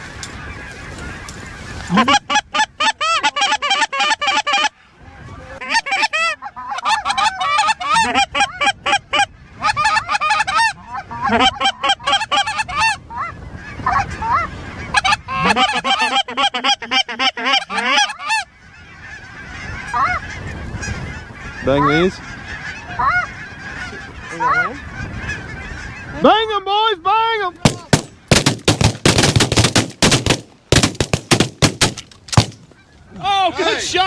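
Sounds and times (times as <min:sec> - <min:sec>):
geese honking and clucking: 0:00.0 - 0:34.0.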